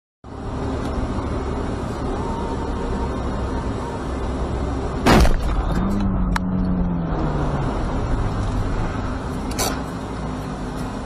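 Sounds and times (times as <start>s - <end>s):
car road and engine noise: 0.2s - 11.0s
low steady drone: 0.3s - 9.5s.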